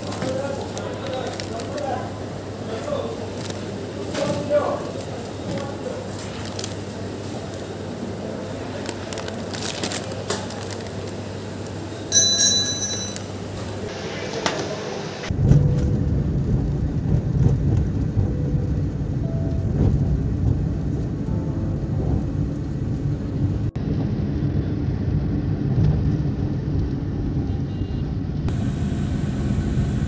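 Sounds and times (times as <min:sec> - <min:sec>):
vehicle road and engine rumble: 0:00.0 - 0:12.6, 0:13.2 - 0:30.0.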